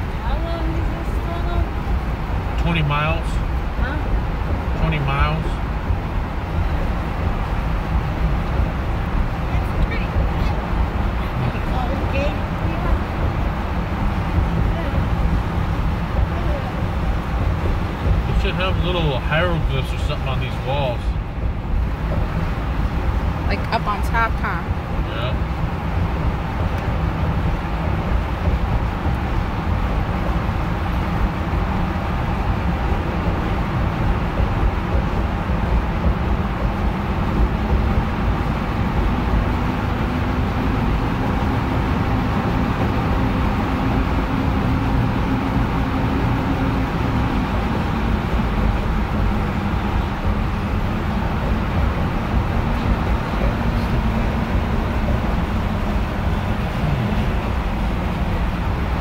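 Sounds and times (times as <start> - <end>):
car tyre rumble in tunnel: 0.0 - 59.0.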